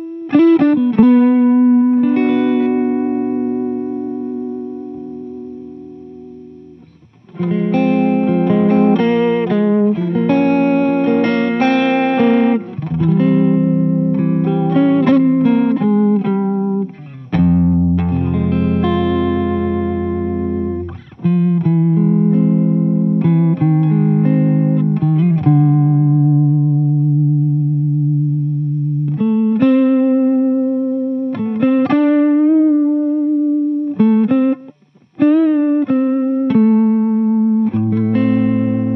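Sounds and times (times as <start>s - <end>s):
electric guitar with phaser: 0.0s - 38.9s.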